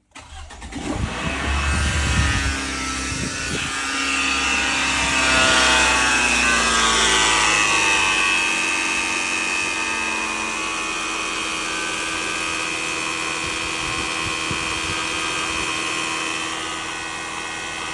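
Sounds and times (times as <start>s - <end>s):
car engine running: 0.3s - 17.9s
high-pitched whine: 1.1s - 17.9s.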